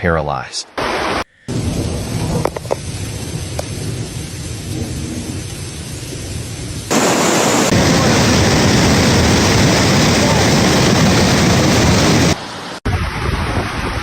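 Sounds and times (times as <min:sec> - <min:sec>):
rain: 0:00.8 - 0:14.0
steady rushing noise: 0:00.8 - 0:14.0
low thunder rumble: 0:01.5 - 0:14.0.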